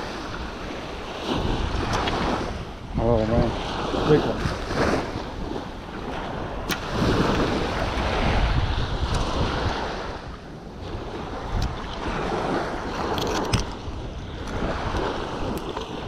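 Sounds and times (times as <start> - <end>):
small waves breaking on sand: 0.0 - 16.0
wind buffeting microphone: 0.0 - 16.0.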